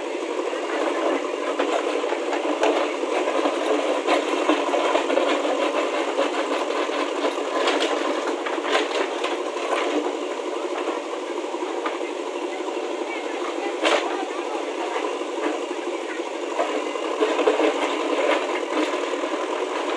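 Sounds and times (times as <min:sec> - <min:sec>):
diesel engine running under load: 0:00.0 - 0:19.9.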